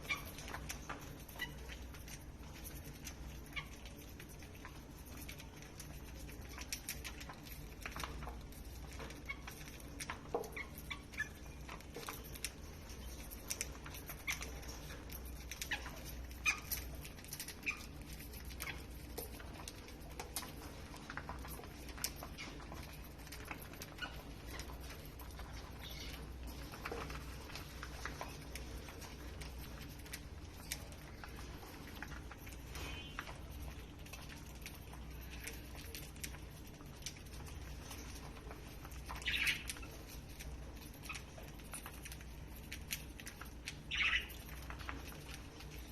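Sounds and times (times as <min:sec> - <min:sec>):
birds chirping: 0:00.0 - 0:45.9
low steady hum: 0:00.0 - 0:45.9.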